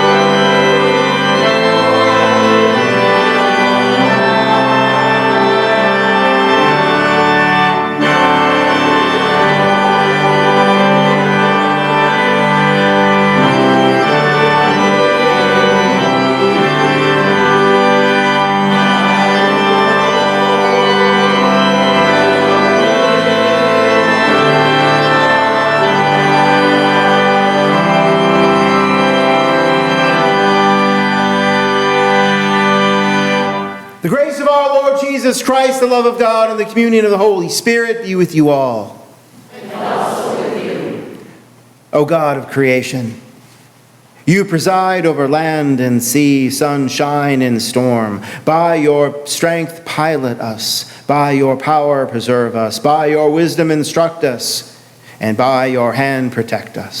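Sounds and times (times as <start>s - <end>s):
church organ playing chords: 0.0s - 43.2s, 44.3s - 56.4s.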